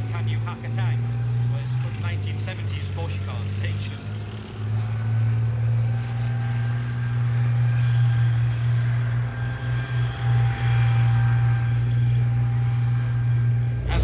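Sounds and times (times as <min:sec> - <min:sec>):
high whine of running gear: 0:00.0 - 0:14.0
tank engine droning: 0:00.0 - 0:14.0.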